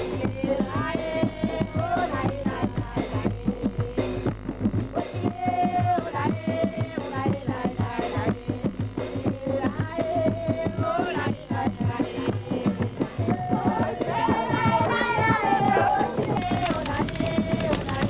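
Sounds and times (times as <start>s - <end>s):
music with quick drum beat: 0.0s - 18.0s.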